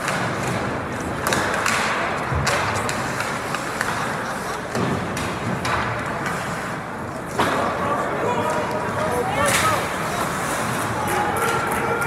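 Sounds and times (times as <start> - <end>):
hockey sticks and puck clacking: 0.0 - 12.0
skates scraping ice: 0.0 - 12.0.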